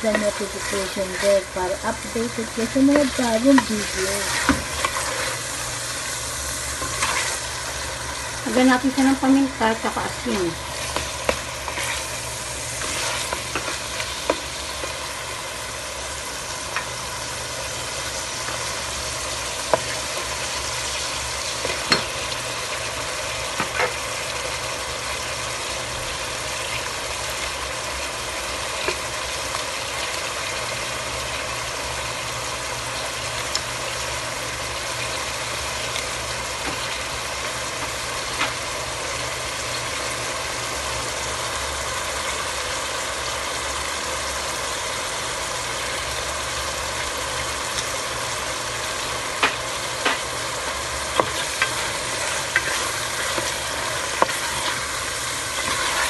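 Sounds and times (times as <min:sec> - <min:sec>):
food sizzling in a pot: 0:00.0 - 0:56.0.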